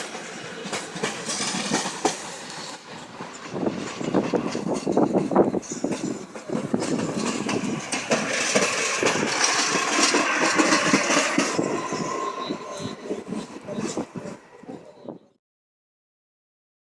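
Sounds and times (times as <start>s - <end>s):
train wheels knocking over rail joints: 0.0s - 14.5s.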